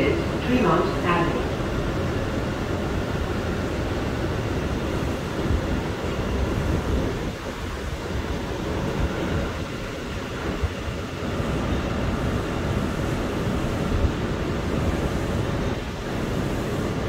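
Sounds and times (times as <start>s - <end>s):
subway car rumble and hiss: 0.0s - 17.0s.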